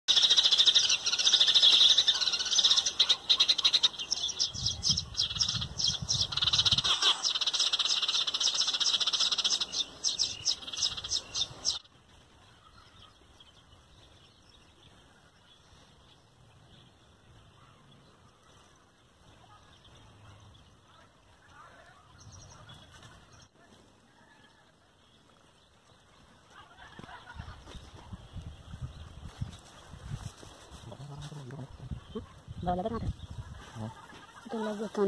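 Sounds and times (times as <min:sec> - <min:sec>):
small birds chirping chorus: 0:00.1 - 0:35.0.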